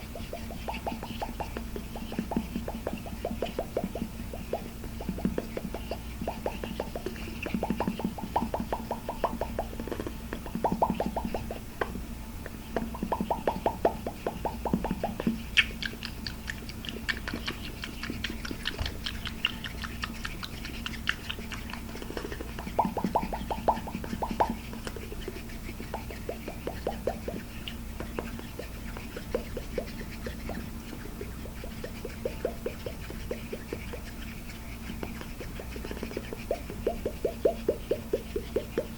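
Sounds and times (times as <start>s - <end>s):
fast tapping on hard objects: 0.0s - 12.0s, 12.8s - 38.9s.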